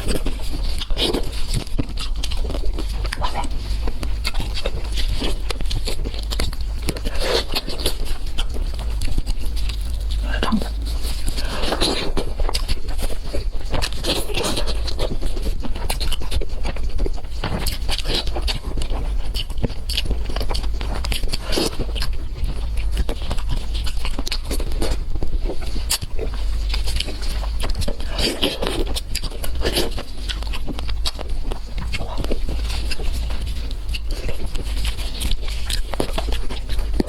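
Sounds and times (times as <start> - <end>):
person chewing with mouth clicks: 0.0 - 37.0
steady low hum: 0.0 - 37.0.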